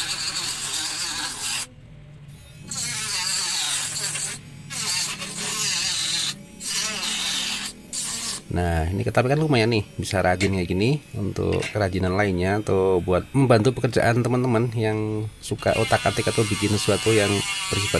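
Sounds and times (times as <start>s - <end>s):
mini grinder cutting plastic pipe: 0.0s - 1.7s, 2.4s - 17.9s.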